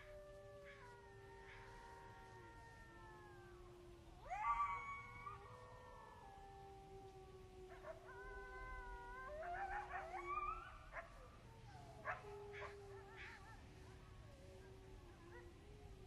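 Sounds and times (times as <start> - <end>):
wolves howling: 0.0 - 16.0.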